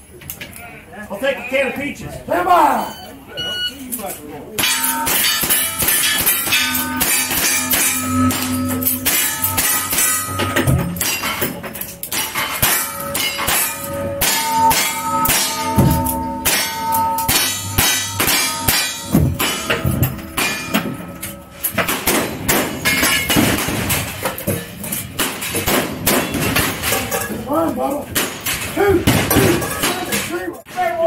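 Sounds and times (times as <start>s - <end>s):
steel target clanging: 4.6s - 30.7s.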